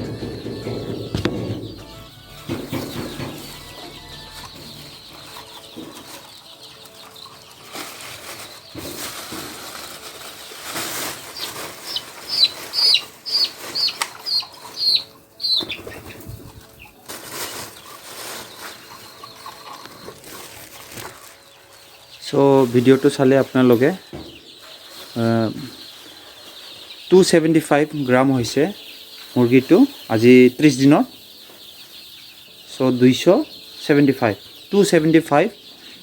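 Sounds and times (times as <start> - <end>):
chick peeping: 0.0 - 36.0.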